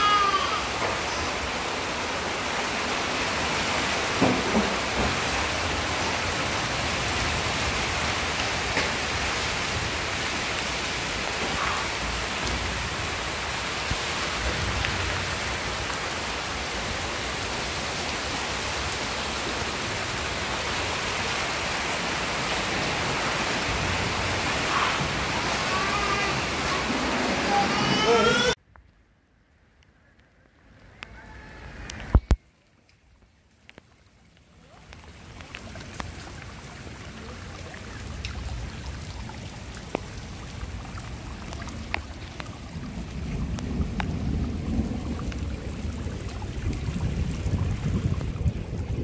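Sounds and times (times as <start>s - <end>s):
heavy rain on standing water: 0.0s - 28.6s, 29.3s - 49.0s.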